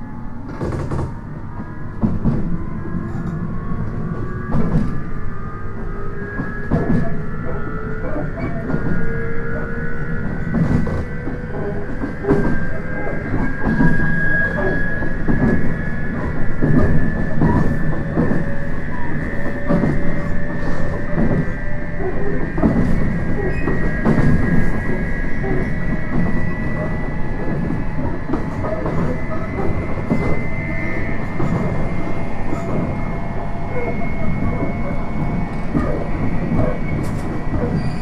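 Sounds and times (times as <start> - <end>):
train running rumble: 0.0 - 38.0.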